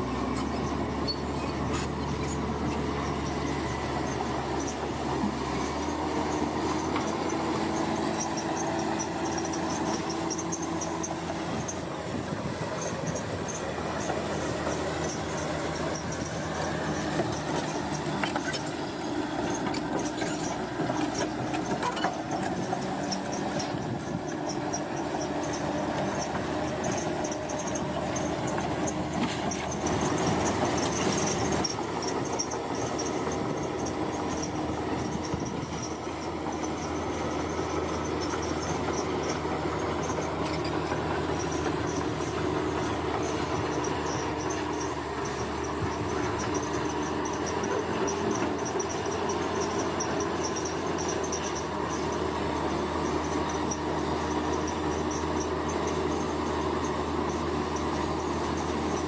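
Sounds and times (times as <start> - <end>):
bulldozer engine running: 0.0 - 59.0.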